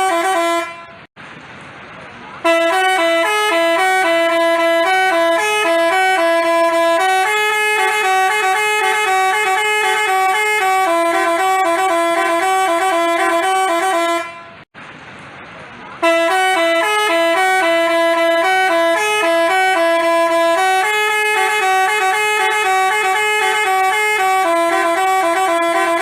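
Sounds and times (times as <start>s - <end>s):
bus horn playing a tune: 0.0s - 1.1s, 2.4s - 14.7s, 16.0s - 26.0s.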